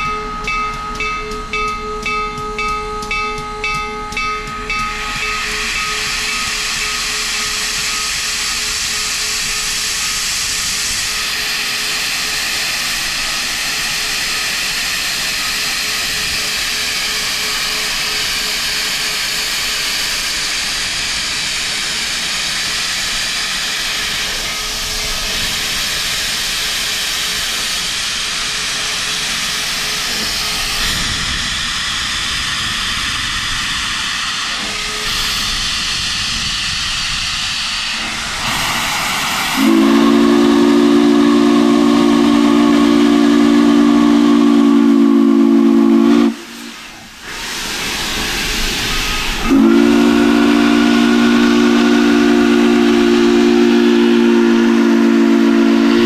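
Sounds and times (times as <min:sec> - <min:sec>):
chime steam whistle blasts: 0:00.0 - 0:36.8, 0:37.4 - 0:56.0
steam locomotive hissing steam: 0:00.0 - 0:56.0.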